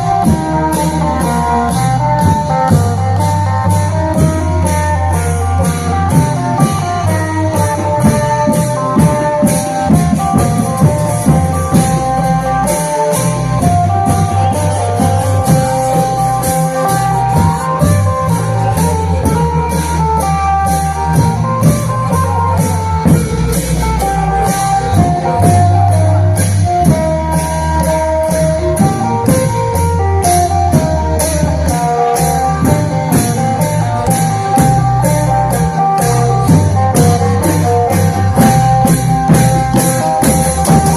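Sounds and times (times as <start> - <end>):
cymbals struck steadily: 0.0 - 40.9
long drums: 0.0 - 40.9
plucked string melody: 0.0 - 40.9.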